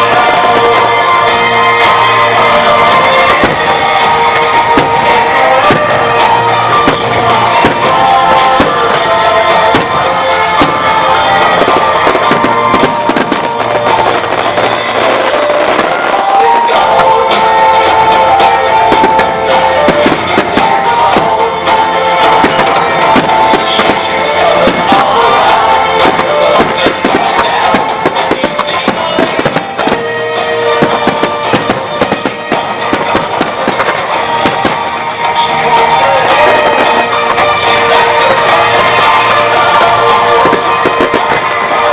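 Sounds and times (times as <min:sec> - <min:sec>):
firework shells bursting: 0:00.0 - 0:41.9
music playing: 0:00.0 - 0:41.9.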